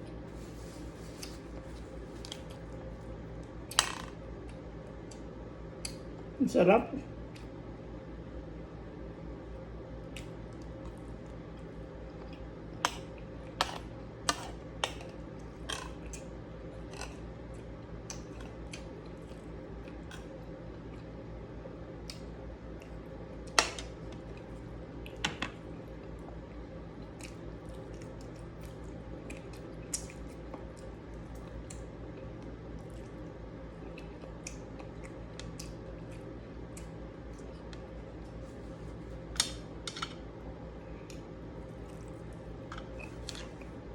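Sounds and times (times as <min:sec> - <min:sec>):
low background hum: 0:00.0 - 0:43.9.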